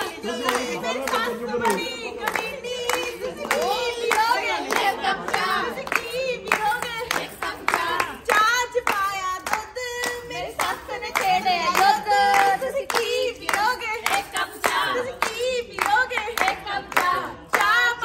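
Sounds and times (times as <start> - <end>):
hands clapping to a beat: 0.0 - 18.0
women singing folk song: 0.0 - 18.0.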